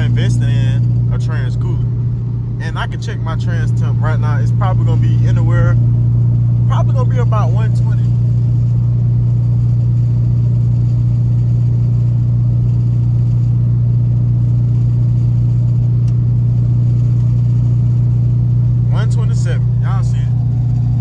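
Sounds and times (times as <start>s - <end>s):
car engine deep drone: 0.0s - 21.0s.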